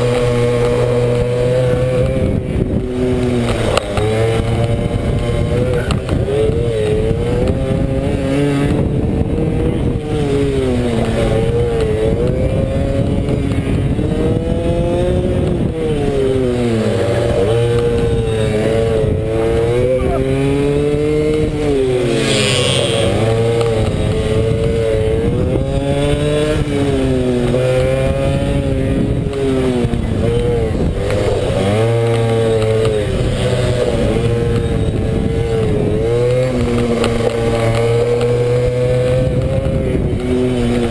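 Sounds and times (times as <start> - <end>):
motorcycle engine revving and dropping: 0.0 - 40.9.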